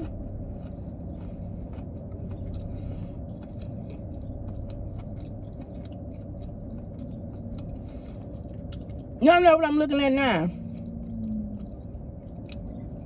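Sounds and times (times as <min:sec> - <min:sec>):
person chewing food: 0:00.0 - 0:09.2, 0:10.5 - 0:13.0
low steady hum: 0:00.0 - 0:13.0.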